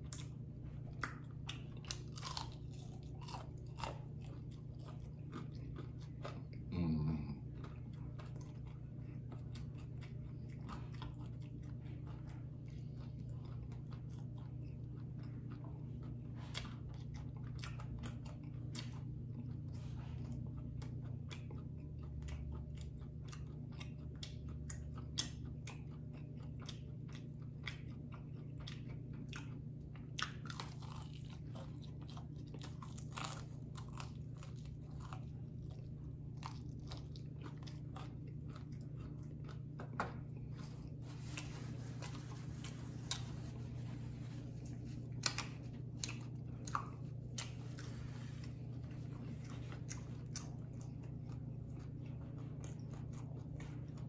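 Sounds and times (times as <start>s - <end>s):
crunchy chewing: 0.0s - 54.0s
steady low hum: 0.0s - 54.0s.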